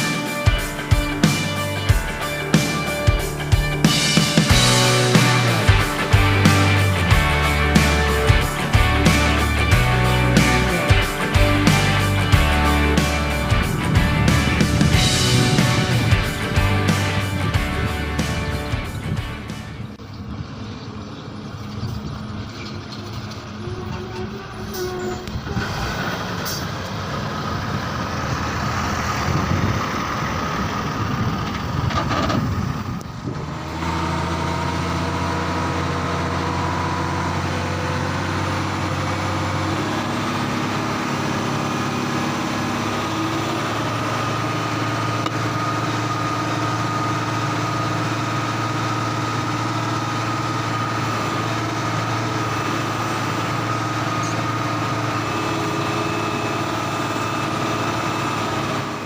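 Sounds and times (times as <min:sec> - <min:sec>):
heavy diesel engine idling: 0:00.0 - 0:59.0.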